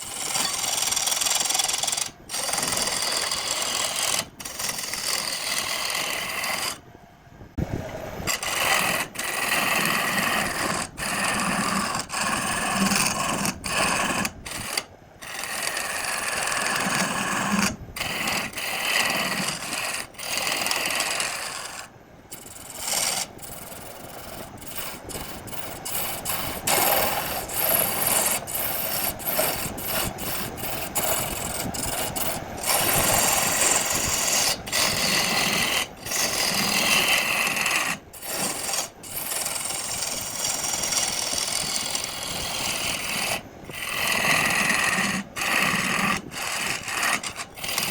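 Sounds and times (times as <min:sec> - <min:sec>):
rasping on wood: 0:00.0 - 0:06.8, 0:08.3 - 0:47.9.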